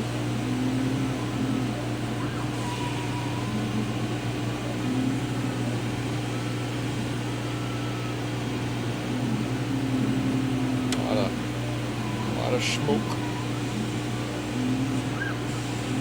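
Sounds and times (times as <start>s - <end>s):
cutting head whining: 0.0s - 16.0s
laser cutter machine hum: 0.0s - 16.0s.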